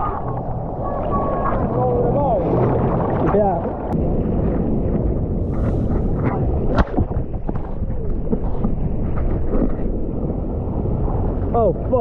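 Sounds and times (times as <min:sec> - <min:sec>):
heavy surf breaking: 0:00.0 - 0:12.0.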